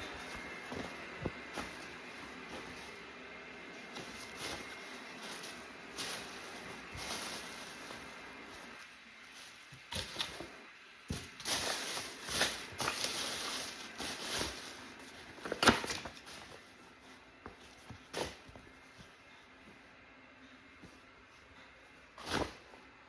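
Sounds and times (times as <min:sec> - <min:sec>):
fabric rustling: 0:00.0 - 0:19.8.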